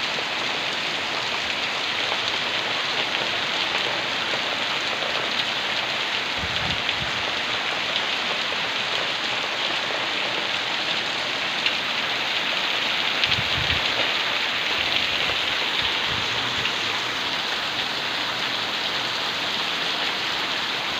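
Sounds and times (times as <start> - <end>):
heavy rain: 0.0 - 20.9.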